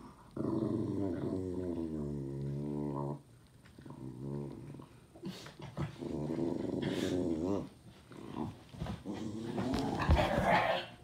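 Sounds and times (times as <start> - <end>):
dog growling: 0.4 - 5.0, 5.7 - 10.9.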